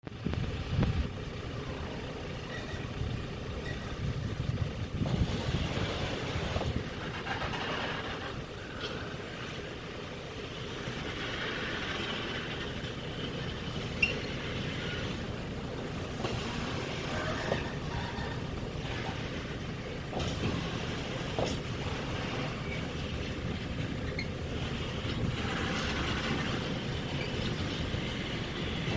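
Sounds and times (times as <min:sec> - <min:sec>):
diesel engine rumble: 0:00.0 - 0:28.9.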